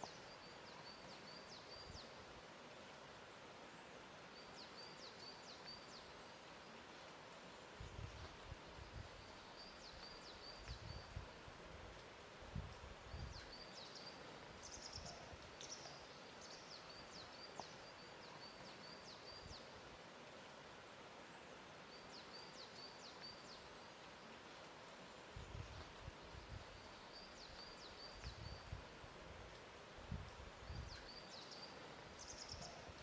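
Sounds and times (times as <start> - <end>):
soft steady hiss: 0.0 - 33.0.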